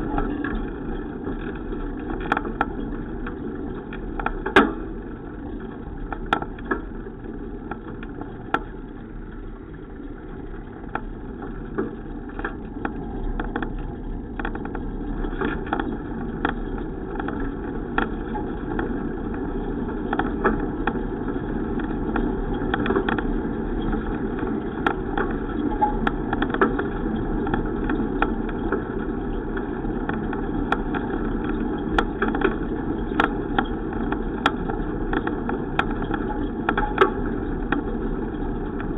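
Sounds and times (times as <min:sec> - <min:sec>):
bicycle road and wind noise: 0:00.0 - 0:38.9
small clicks and rattles: 0:00.0 - 0:38.9.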